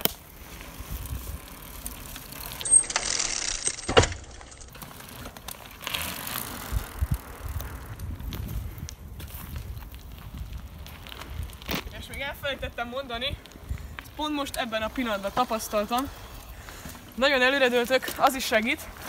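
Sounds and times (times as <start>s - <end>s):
bicycle tyre and drivetrain rattle: 0.0s - 19.0s.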